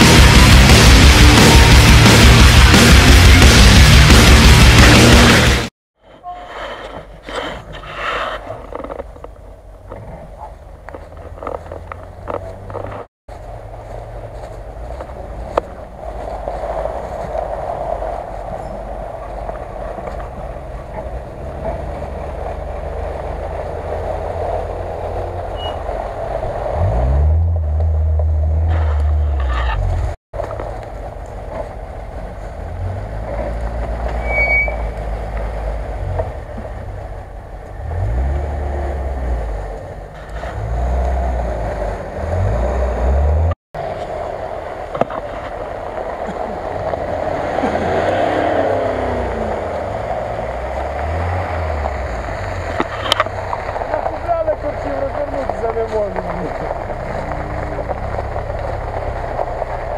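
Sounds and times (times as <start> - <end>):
car engine revving: 0.0 - 5.7, 10.9 - 59.9.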